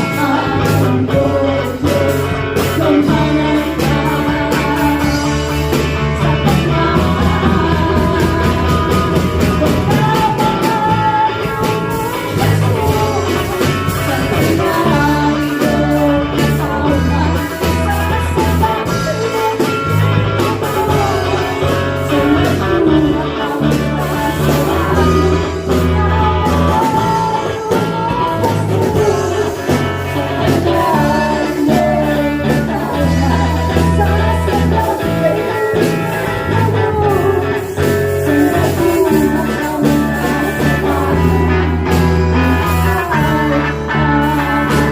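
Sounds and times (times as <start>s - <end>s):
drum kit beat: 0.0s - 44.9s
person singing: 0.0s - 44.9s
worship band music: 0.0s - 44.9s.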